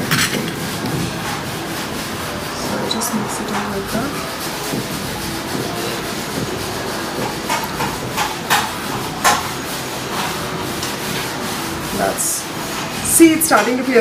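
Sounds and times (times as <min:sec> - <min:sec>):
hand mixing sticky dough: 0:00.0 - 0:14.0.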